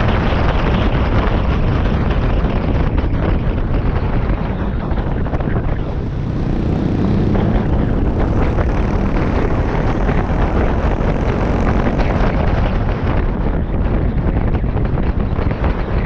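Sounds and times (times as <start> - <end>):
motorbike engine running: 0.0 - 16.0
wind rushing over microphone: 0.0 - 16.0.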